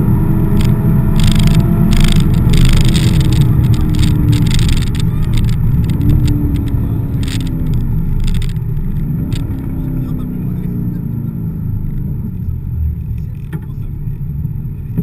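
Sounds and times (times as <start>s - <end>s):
car engine from inside: 0.0s - 15.0s.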